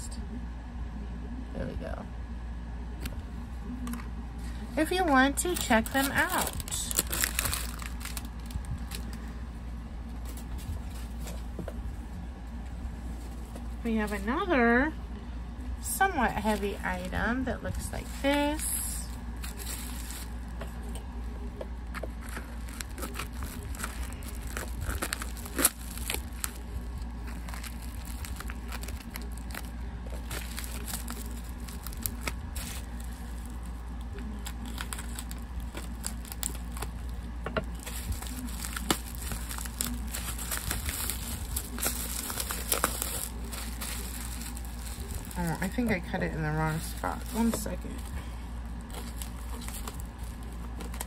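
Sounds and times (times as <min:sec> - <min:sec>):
steady low hum: 0:00.0 - 0:51.0
parcel wrapping crinkling: 0:03.8 - 0:09.4, 0:13.1 - 0:14.5, 0:16.0 - 0:51.0.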